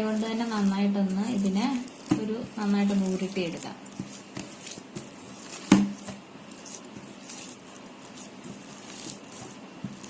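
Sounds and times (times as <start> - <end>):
hands squishing mashed plantain: 0.0 - 10.0.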